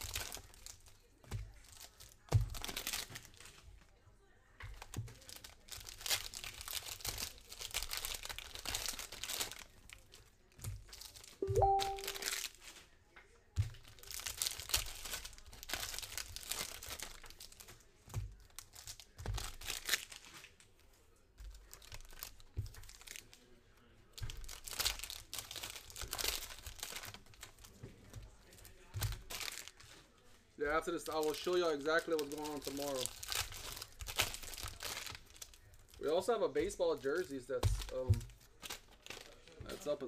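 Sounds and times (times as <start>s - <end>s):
foil wrappers tearing and crinkling: 0.0s - 3.6s, 4.7s - 12.9s, 13.7s - 20.7s, 21.5s - 30.0s, 30.7s - 40.0s.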